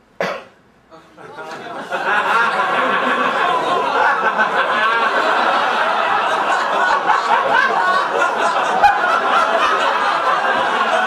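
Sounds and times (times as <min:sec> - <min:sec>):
audience laughing: 0:01.2 - 0:11.0.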